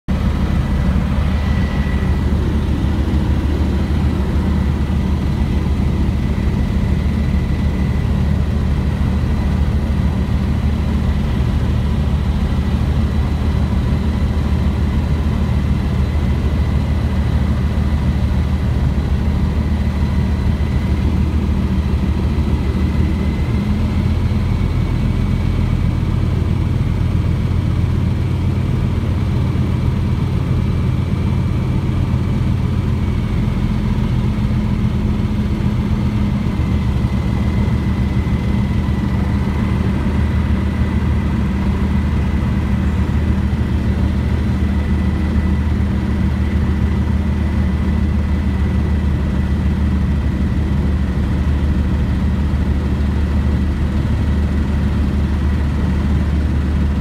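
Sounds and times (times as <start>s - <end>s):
aircraft engine and propeller droning: 0.1s - 57.0s.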